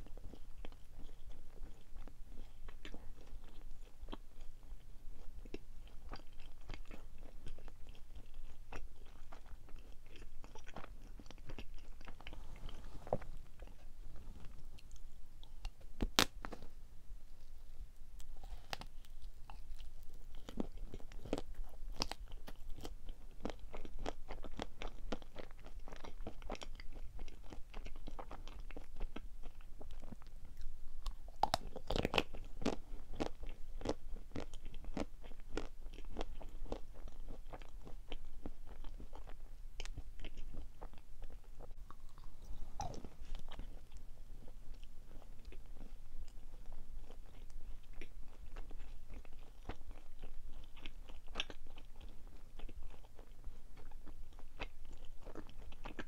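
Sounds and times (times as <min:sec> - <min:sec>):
person chewing sweets: 0:00.0 - 0:16.8, 0:17.4 - 0:56.0.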